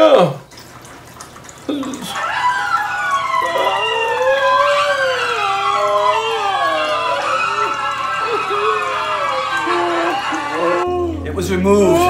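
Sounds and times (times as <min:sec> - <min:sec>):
man screaming: 0:01.8 - 0:12.0.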